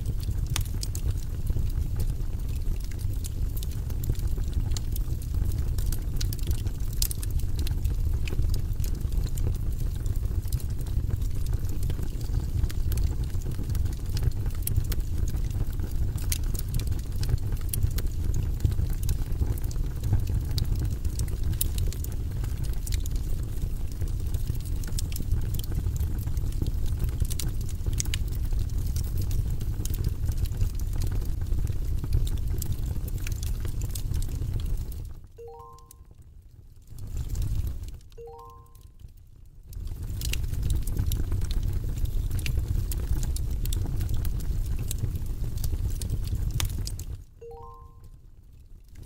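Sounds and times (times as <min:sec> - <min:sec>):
low fire rumble: 0:00.0 - 0:35.4, 0:36.1 - 0:38.2, 0:39.0 - 0:47.4, 0:48.3 - 0:49.0
logs crackling and popping: 0:00.0 - 0:36.0, 0:36.7 - 0:47.9, 0:48.6 - 0:49.0.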